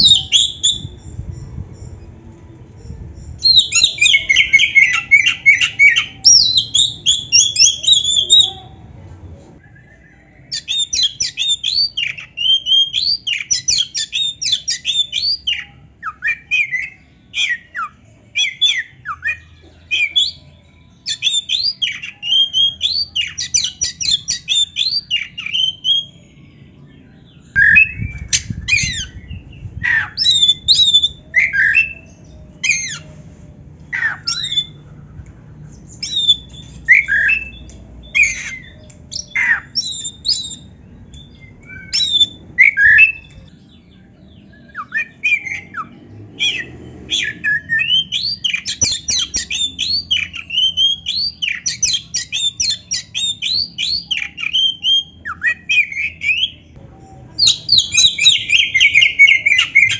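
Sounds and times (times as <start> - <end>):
bird singing whistles and chatter: 0.0 - 2.1, 2.8 - 8.6, 9.6 - 33.1, 33.9 - 59.9.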